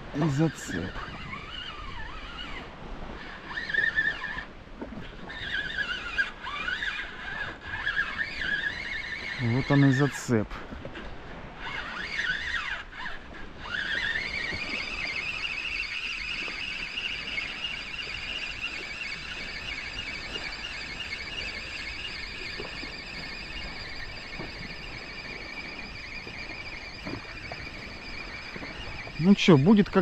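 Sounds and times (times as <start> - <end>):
fishing line high whine: 0.0 - 30.0.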